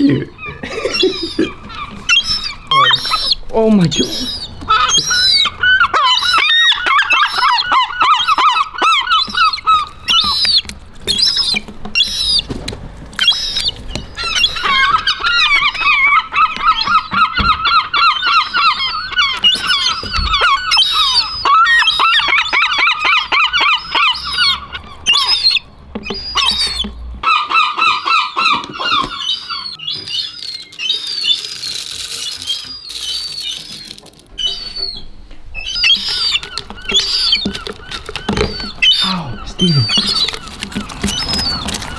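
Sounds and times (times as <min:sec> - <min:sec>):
seagulls calling: 0:00.0 - 0:41.9.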